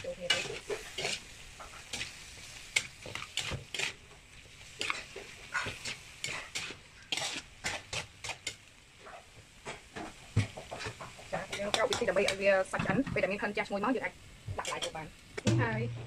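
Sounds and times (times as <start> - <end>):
utensil scraping frying pan: 0.0 - 14.0
faint sizzle: 0.0 - 16.0.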